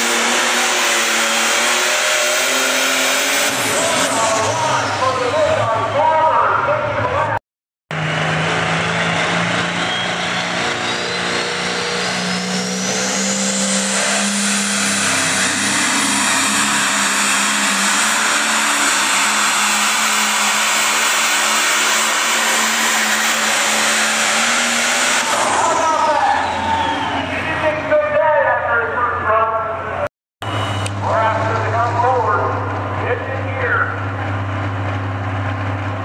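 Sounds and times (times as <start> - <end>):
diesel engine at full power: 0.0 - 36.0
high turbo whine: 0.0 - 36.0.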